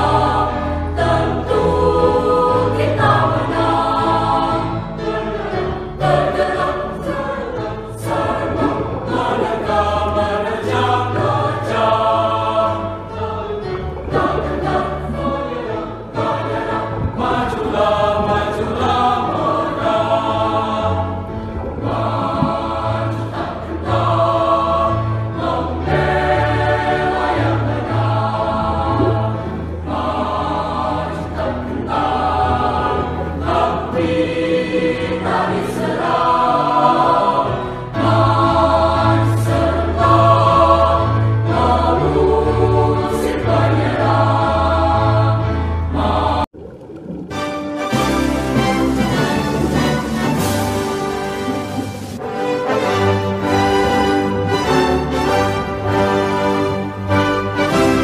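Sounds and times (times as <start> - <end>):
low accompaniment: 0.0 - 35.4, 46.0 - 58.0
choir singing: 0.0 - 46.6, 47.8 - 58.0.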